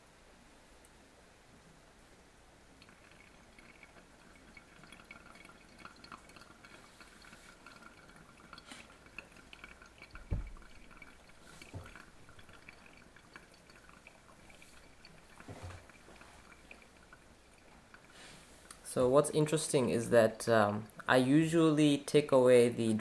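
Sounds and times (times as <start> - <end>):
coffee trickling and dripping: 2.6 - 23.0.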